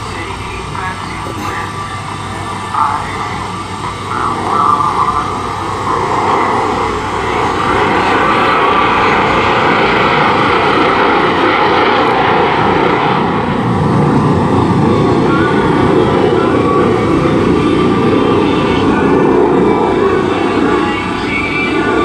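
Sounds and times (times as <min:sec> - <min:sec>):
jets flying past roaring: 0:00.0 - 0:22.0.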